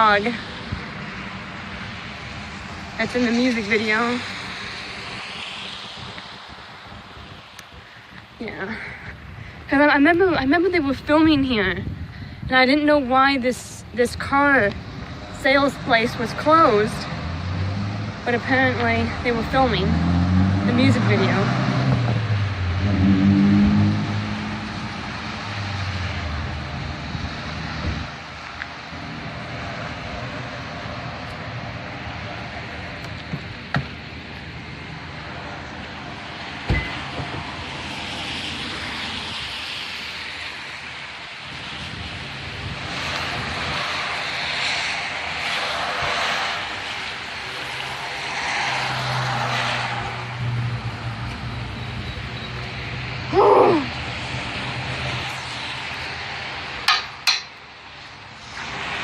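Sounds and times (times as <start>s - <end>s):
passing vehicle engine hum: 0.0s - 9.9s, 13.7s - 59.0s
road noise hiss: 0.0s - 59.0s.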